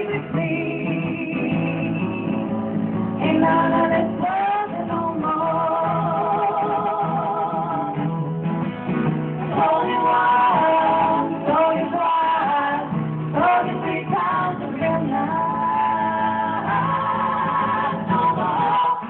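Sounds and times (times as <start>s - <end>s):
women singing in harmony: 0.0s - 2.6s, 3.2s - 8.0s, 9.5s - 19.0s
strummed acoustic guitars: 0.0s - 19.0s.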